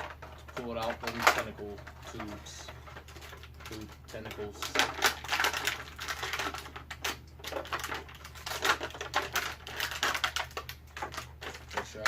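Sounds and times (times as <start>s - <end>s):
plastic packaging clicks and crinkles: 0.0s - 12.0s.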